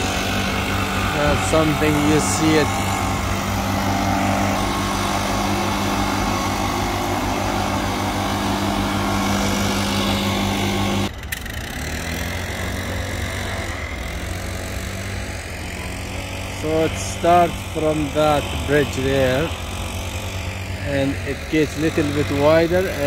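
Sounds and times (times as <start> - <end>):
faint low engine hum: 0.0 - 23.0
small petrol engine running: 0.0 - 23.0.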